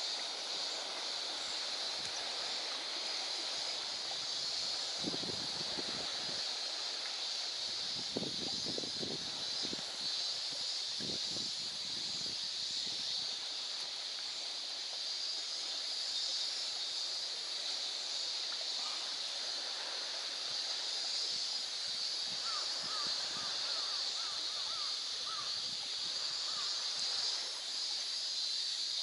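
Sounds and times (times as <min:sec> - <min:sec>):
small waves lapping: 0:00.0 - 0:29.0
steady high-pitched hiss: 0:00.0 - 0:29.0.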